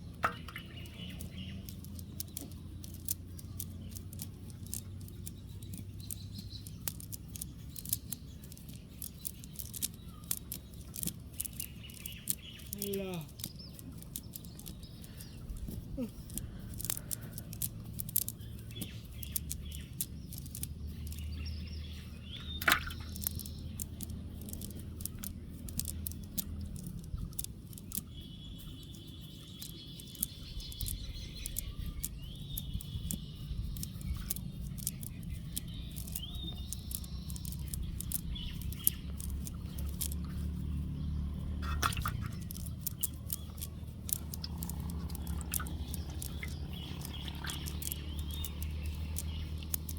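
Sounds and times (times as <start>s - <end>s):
birds chirping: 0.0s - 49.9s
steady low rumble: 0.0s - 49.9s.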